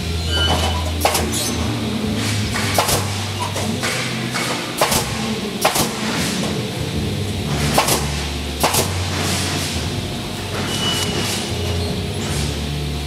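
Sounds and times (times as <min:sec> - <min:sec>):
machine low hum: 0:00.0 - 0:13.0
pneumatic nail gun shots: 0:00.5 - 0:06.6, 0:07.5 - 0:12.7.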